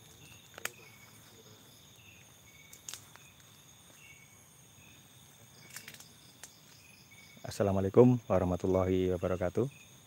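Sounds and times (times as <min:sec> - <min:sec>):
night insects trilling: 0:00.0 - 0:10.0
short insect chirps: 0:00.0 - 0:10.0.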